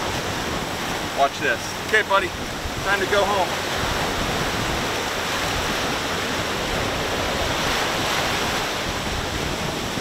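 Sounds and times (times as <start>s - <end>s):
small waves washing on sand: 0.0s - 10.0s.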